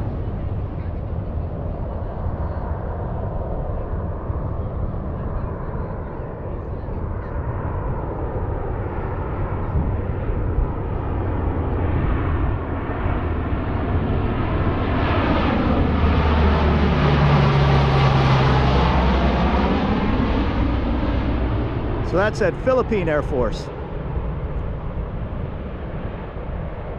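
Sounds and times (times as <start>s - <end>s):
propeller plane flying past: 0.0s - 26.9s.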